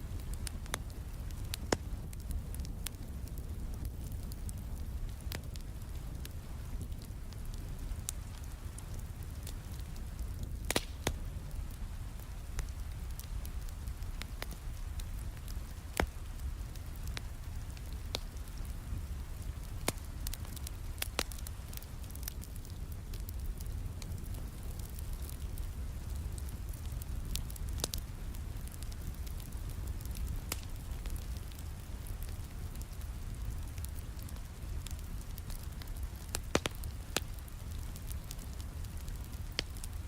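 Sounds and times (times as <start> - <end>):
wood fire crackling: 0.0 - 40.0
sharp pops of fire: 0.1 - 40.0.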